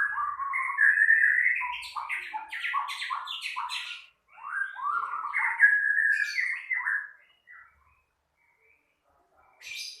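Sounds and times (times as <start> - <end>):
bird singing whistled notes: 0.0 - 8.7.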